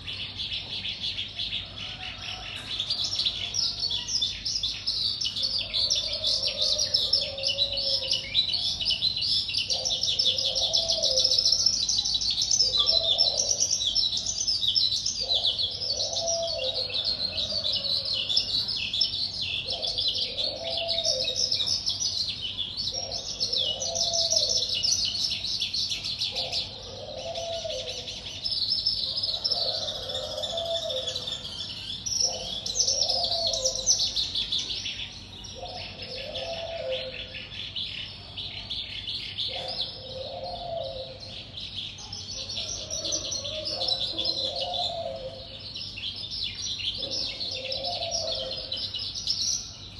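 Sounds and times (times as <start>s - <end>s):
songbird chirping and trilling: 0.0s - 49.9s.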